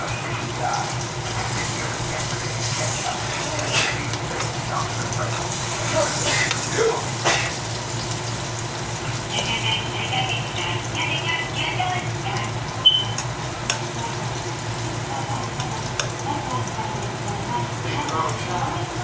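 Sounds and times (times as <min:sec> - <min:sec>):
zucchini sizzling in a pan: 0:00.0 - 0:19.0.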